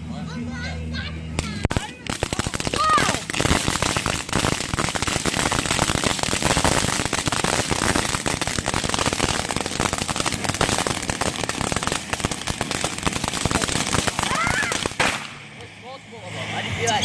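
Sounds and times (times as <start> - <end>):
fireworks crackling: 1.2 - 17.0.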